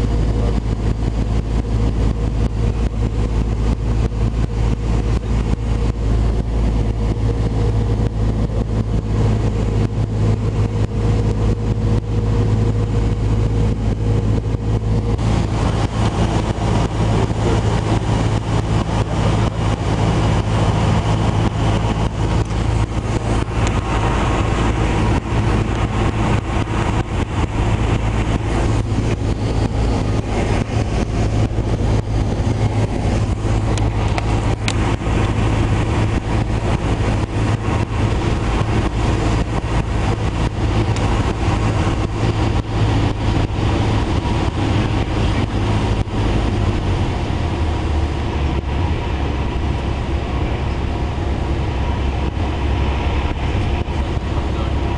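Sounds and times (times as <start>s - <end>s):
aircraft engine droning: 0.0s - 54.9s
wind noise: 0.0s - 54.9s.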